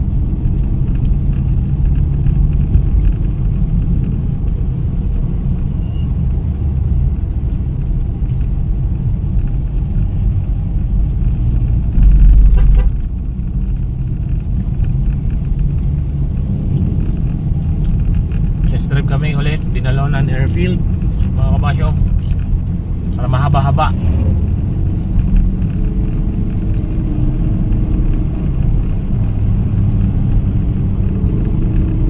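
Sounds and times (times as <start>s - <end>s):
car engine and road rumble: 0.0s - 32.0s
deep rumble: 0.0s - 32.0s.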